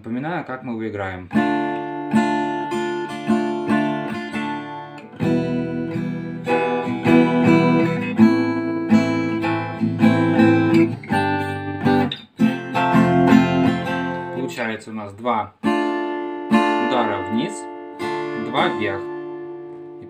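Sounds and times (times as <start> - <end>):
acoustic guitar strumming: 1.3 - 14.8, 15.6 - 20.0.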